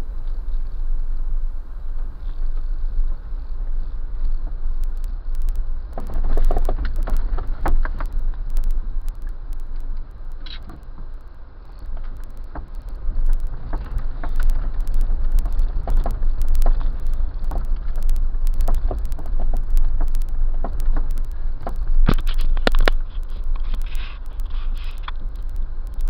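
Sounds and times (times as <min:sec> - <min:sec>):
vehicle rumbling on dirt track: 0:00.0 - 0:26.0.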